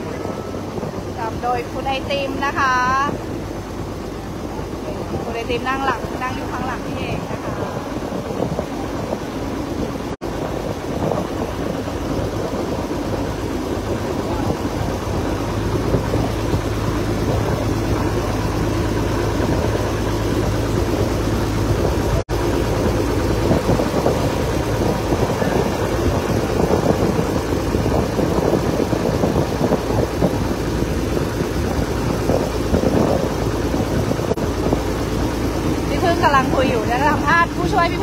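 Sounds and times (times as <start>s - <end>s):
boat engine running: 0.0s - 38.0s.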